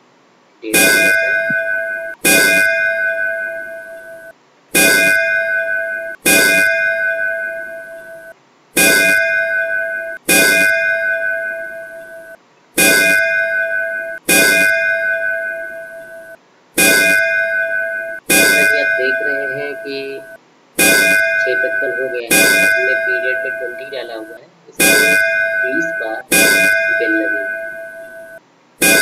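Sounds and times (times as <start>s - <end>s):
temple bell strikes ringing: 0.7s - 4.1s, 8.8s - 29.0s.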